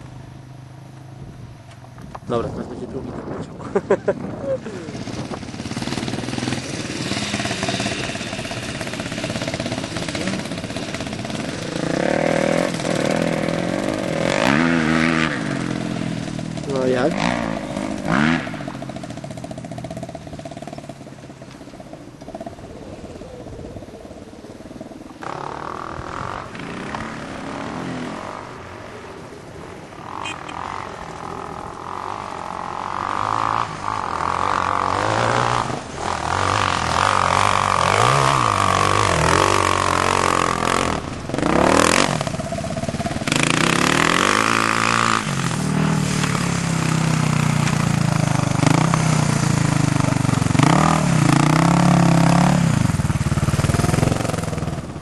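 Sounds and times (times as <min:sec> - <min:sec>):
dirt bike engine revving: 0:03.8 - 0:23.1, 0:24.1 - 0:55.0.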